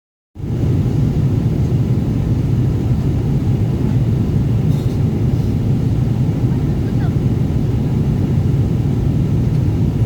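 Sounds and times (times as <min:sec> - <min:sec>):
airliner cabin rumble: 0:00.4 - 0:10.0.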